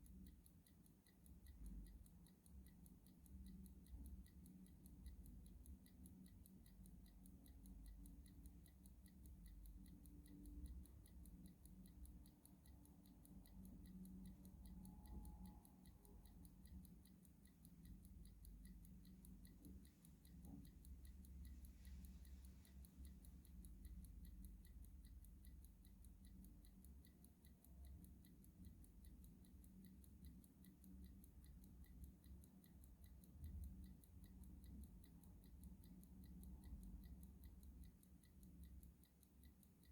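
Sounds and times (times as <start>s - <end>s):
clock ticking faintly: 0.0s - 39.9s
low background hum: 0.0s - 39.9s.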